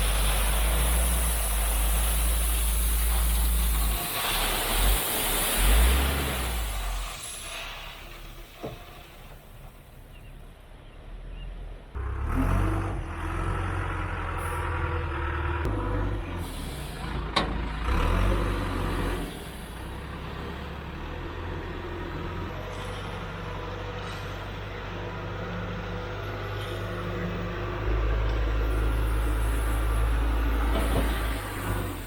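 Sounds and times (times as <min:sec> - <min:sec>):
heavy equipment diesel engine: 0:00.0 - 0:32.0.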